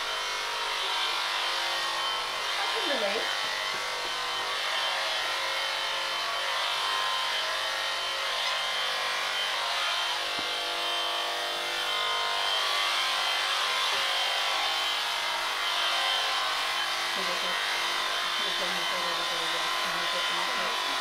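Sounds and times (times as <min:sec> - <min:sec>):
electric sheep shears cutting fleece: 0:00.0 - 0:21.0.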